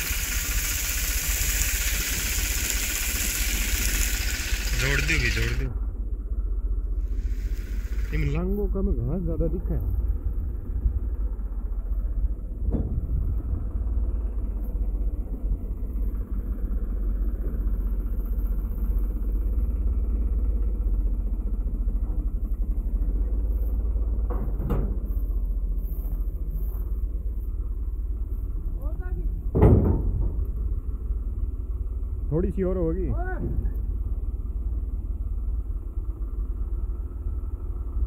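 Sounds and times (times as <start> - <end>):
tractor diesel engine idling: 0.0 - 12.7, 13.4 - 29.6, 30.2 - 38.0.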